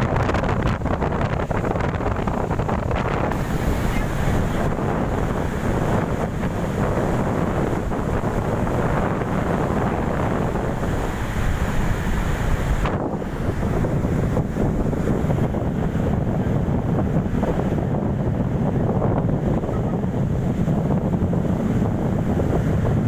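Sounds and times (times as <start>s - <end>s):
big waves breaking: 0.0s - 23.0s
wind buffeting microphone: 0.0s - 23.0s.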